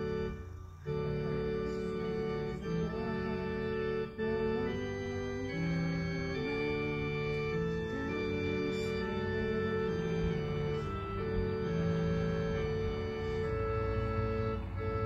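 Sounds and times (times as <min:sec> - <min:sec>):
organ playing a hymn: 0:00.0 - 0:15.0.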